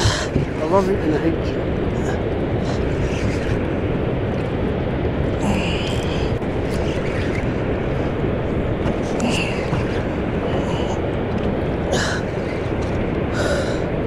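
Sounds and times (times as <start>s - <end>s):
water roaring through spillway: 0.0s - 14.0s.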